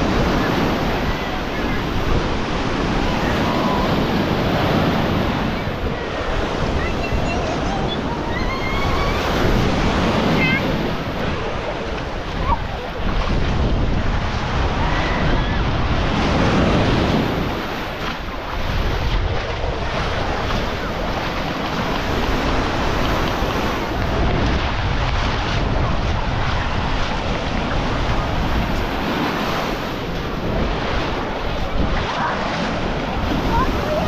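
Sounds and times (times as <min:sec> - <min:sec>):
surf washing onto sandy beach: 0:00.0 - 0:34.0
wind buffeting microphone: 0:00.0 - 0:34.0.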